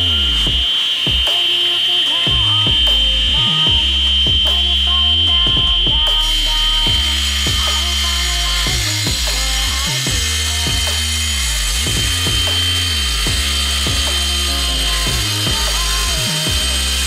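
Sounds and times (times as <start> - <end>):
background music with bass: 0.0 - 1.3, 2.3 - 17.0
tile saw whining: 0.0 - 17.0.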